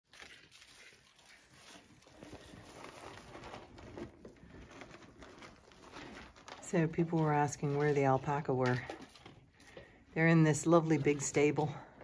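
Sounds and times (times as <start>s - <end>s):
straw rustling and crackling: 0.0s - 12.0s.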